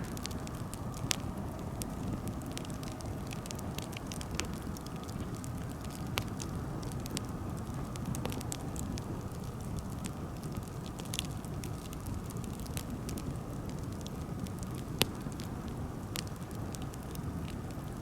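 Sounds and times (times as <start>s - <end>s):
burning wood crackling and popping: 0.0s - 18.0s
campfire flames rumbling: 0.0s - 18.0s.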